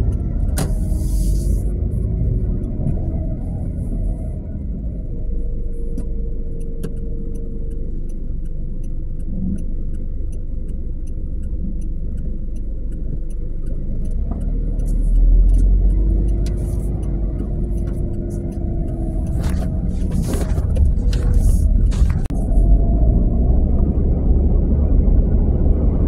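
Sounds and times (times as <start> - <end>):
faint regular ticking: 0.0 - 4.2, 5.0 - 22.0
car engine and tyres rumbling: 0.0 - 26.0.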